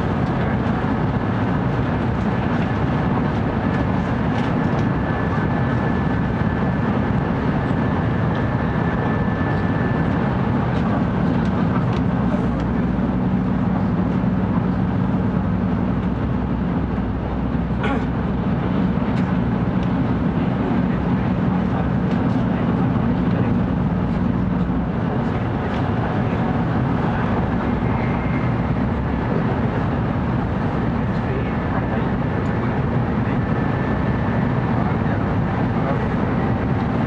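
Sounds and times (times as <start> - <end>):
train running at speed: 0.0 - 37.0.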